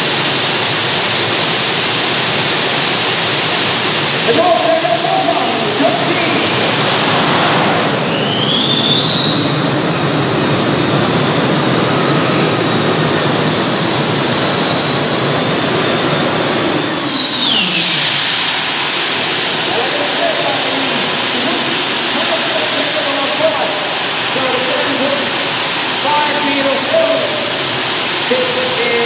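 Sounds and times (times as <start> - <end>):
turbine engines roaring with whine: 0.0 - 29.0.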